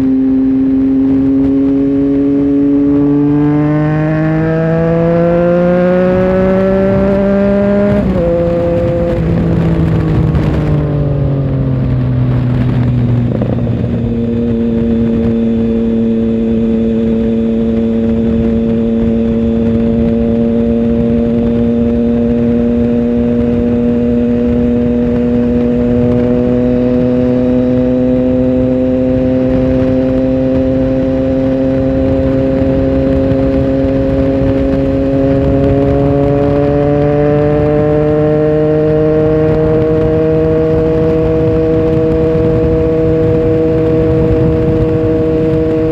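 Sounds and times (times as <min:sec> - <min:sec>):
motorcycle engine while riding: 0:00.0 - 0:45.9.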